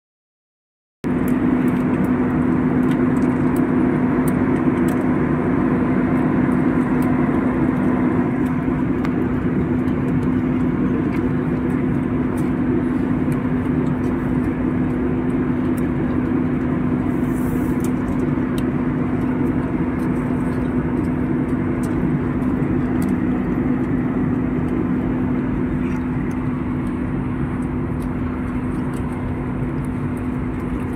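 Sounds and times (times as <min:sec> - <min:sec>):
constant low hum: 0:01.0 - 0:30.9
jet airliner cabin drone: 0:01.0 - 0:30.9.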